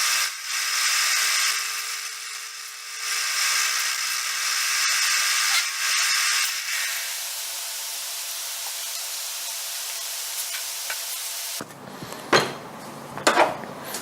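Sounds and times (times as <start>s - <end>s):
machine tool running: 0.0s - 11.6s.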